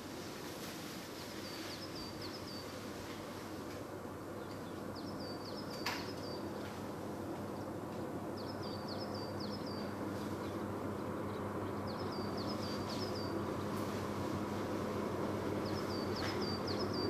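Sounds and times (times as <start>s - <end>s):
diesel train engine humming: 0.0s - 17.0s.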